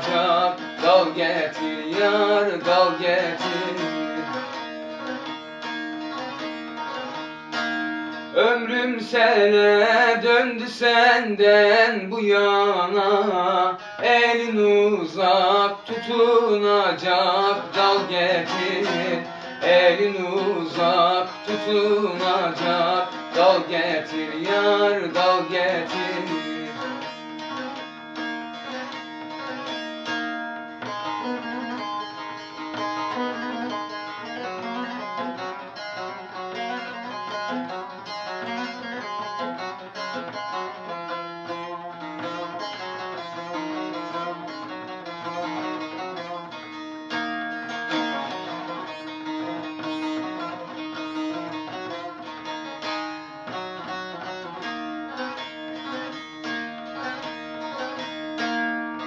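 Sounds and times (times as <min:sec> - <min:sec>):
plucked saz melody: 0:00.0 - 0:59.0.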